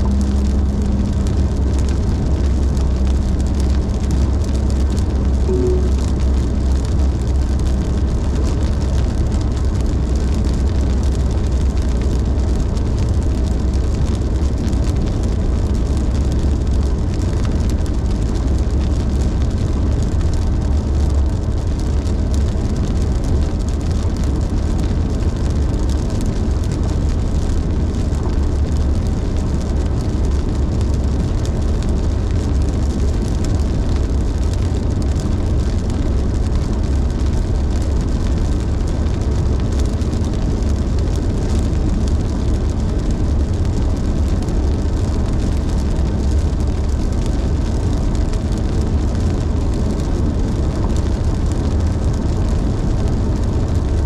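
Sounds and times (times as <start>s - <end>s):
low road rumble: 0.0s - 54.0s.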